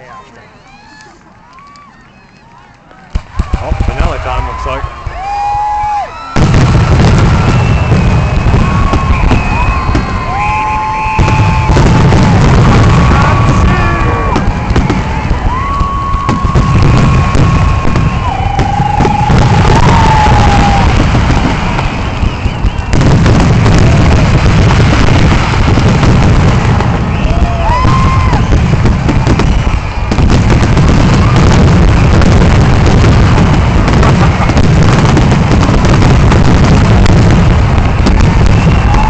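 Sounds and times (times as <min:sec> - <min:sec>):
fireworks bursts and booms: 0:02.0 - 0:39.0
fireworks whistles: 0:05.2 - 0:39.0.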